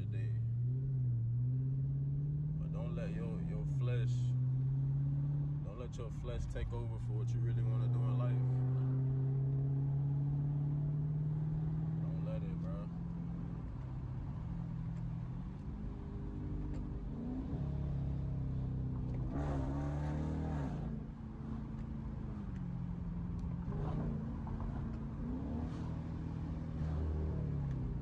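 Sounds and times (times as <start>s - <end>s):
car exhaust running: 0.0s - 28.0s.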